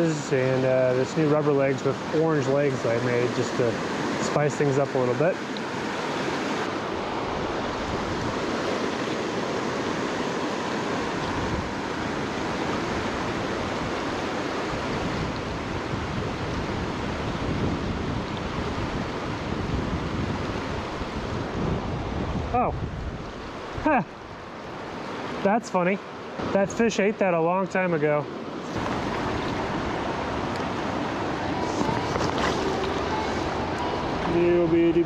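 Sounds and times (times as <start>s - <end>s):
creek rushing over rocks: 0.0s - 35.0s.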